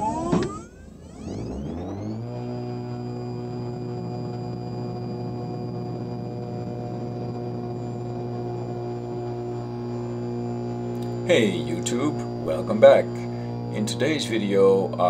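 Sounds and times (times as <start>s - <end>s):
glider motor droning hum: 0.0s - 15.0s
thin high whine: 0.0s - 15.0s.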